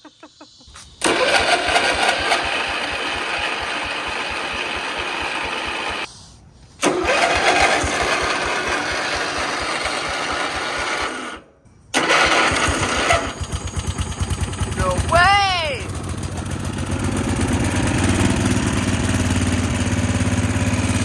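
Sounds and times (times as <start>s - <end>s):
mower engine cranking on starter: 1.0s - 6.1s, 6.8s - 21.0s.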